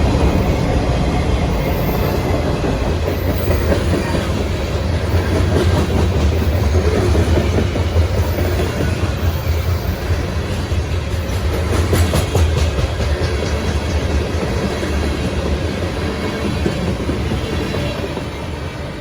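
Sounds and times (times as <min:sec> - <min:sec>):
train wheels rolling on track: 0:00.0 - 0:19.0.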